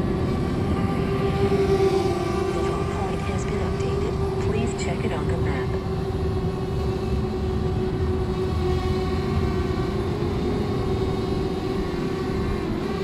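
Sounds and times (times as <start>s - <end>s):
drone propellers humming: 0.0s - 13.0s
wind rumble on microphone: 0.0s - 13.0s.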